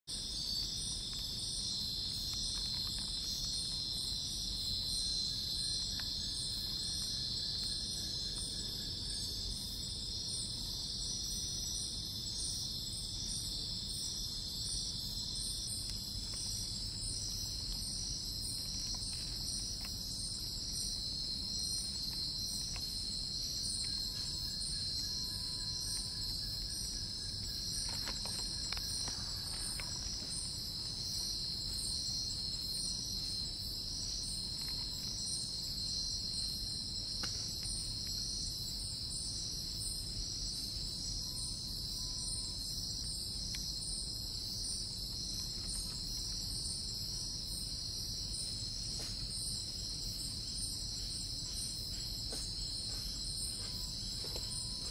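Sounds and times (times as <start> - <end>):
crickets and insects trilling: 0.0 - 54.9.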